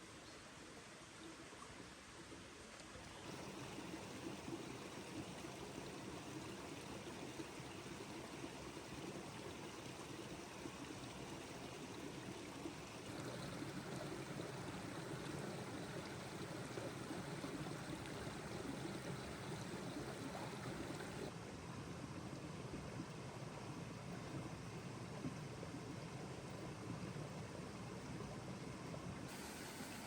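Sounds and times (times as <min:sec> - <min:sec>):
running water: 0:00.5 - 0:30.0.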